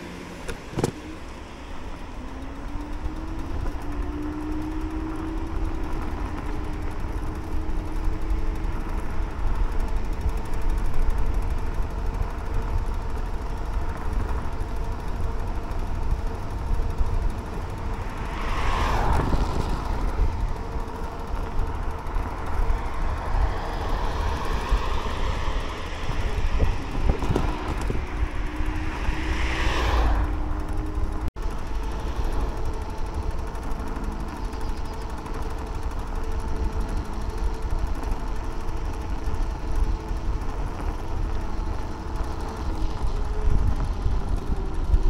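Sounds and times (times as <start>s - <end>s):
electric motor whine: 0.0s - 45.0s
vehicles passing by: 0.0s - 45.0s
wind rumble on microphone: 2.8s - 45.0s.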